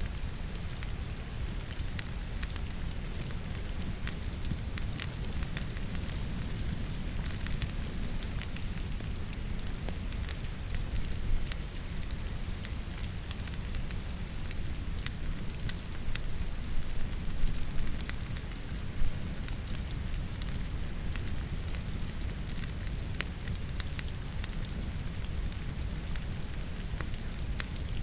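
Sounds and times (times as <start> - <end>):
falling rain hiss: 0.0 - 28.0
logs crackling and popping in fireplace: 0.0 - 28.0.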